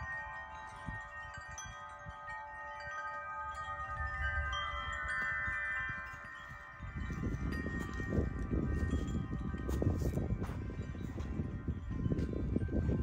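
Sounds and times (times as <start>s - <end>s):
metal wind chimes ringing: 0.0s - 13.0s.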